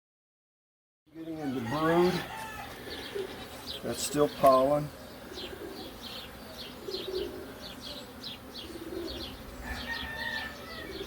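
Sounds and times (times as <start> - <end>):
honeybees humming: 1.1 - 11.0.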